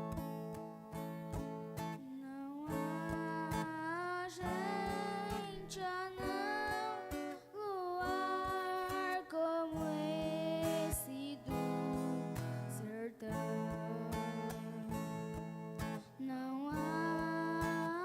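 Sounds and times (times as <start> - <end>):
strummed guitar chords: 0.0 - 18.0.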